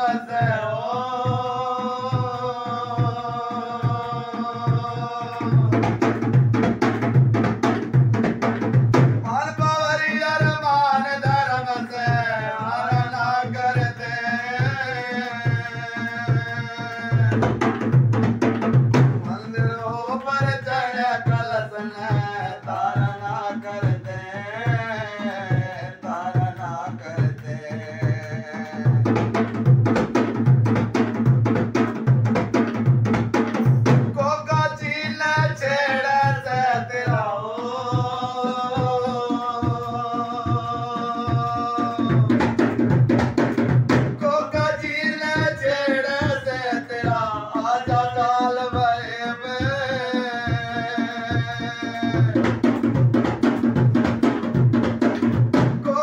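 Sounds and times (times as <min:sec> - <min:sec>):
man singing: 0:00.0 - 0:07.9, 0:09.0 - 0:31.6, 0:33.4 - 0:56.0
dholak drum rhythm: 0:00.0 - 0:56.0.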